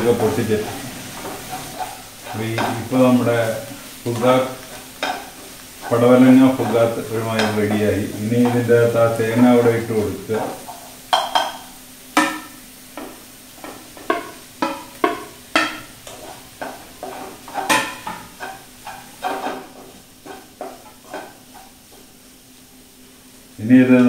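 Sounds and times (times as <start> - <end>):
spatula scraping a pan: 0.0 - 22.2.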